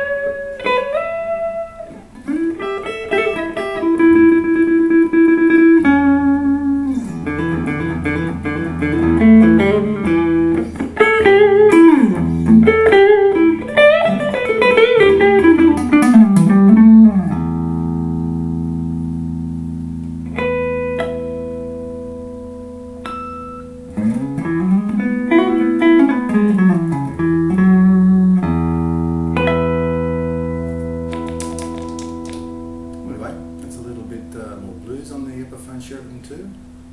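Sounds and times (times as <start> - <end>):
ringing guitar chord: 0.0 - 35.9
clean electric guitar lead: 0.0 - 36.9.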